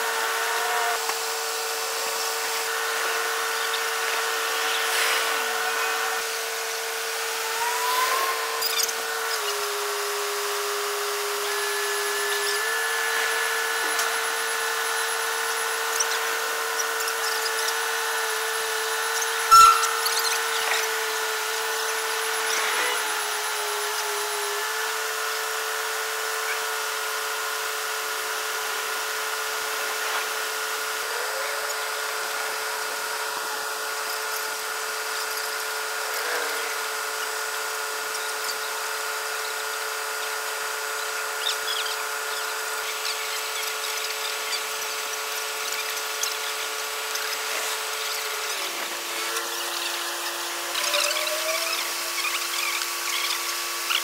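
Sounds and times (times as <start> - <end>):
crane engine and hydraulics whining: 0.0 - 54.0.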